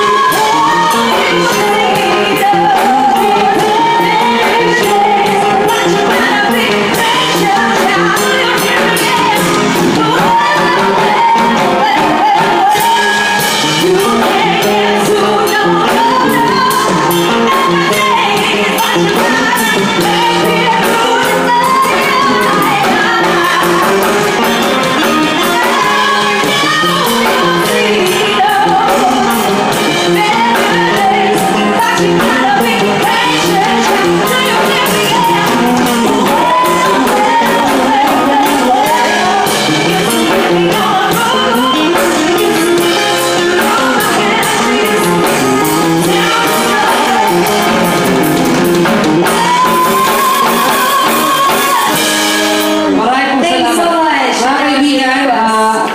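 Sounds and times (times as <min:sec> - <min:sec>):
live band music: 0:00.0 - 0:55.9
woman singing into microphone: 0:00.0 - 0:55.9.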